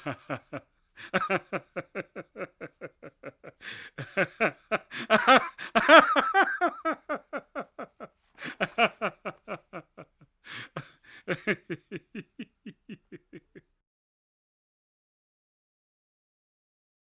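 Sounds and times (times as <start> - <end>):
man laughing: 0.0 - 13.8.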